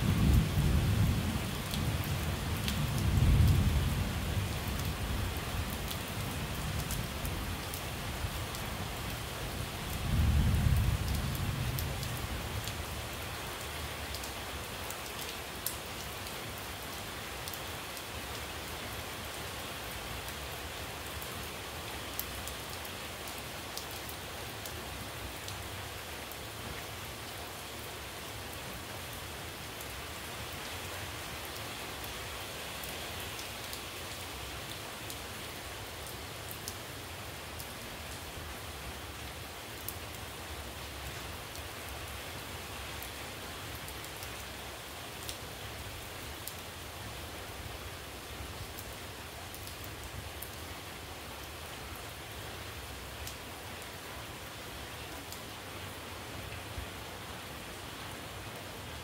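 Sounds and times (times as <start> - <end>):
rain falling on puddles and leaves: 0.0 - 59.0.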